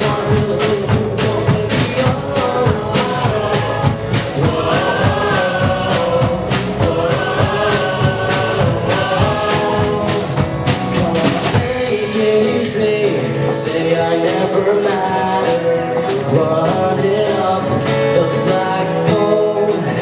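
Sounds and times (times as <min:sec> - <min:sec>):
drum beats: 0:00.0 - 0:17.0
voices singing together: 0:00.0 - 0:20.0.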